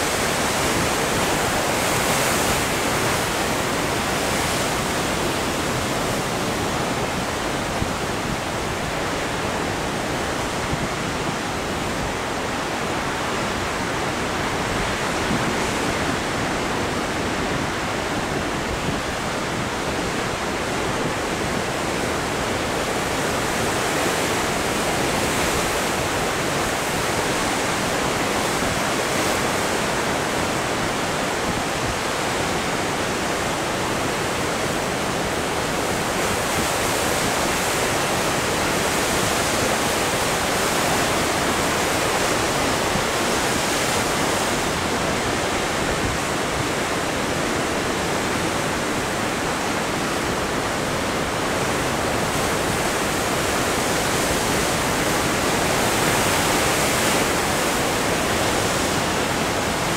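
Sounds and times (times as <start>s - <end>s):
ocean surf breaking on rocks: 0.0s - 59.9s.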